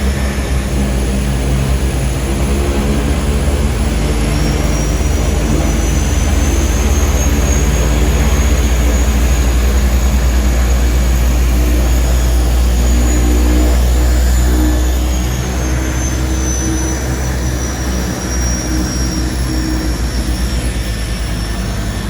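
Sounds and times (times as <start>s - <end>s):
faint high whine: 0.0s - 22.0s
seaplane engines droning: 0.0s - 22.0s.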